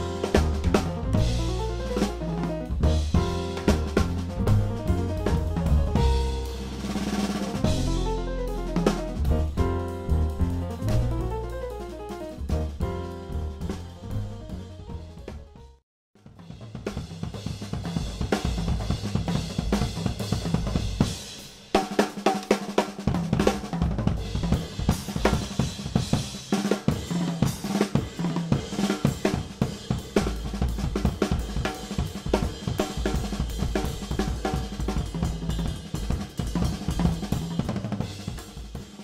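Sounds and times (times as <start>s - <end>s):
jazz drum kit playing: 0.0s - 15.8s, 16.4s - 39.0s.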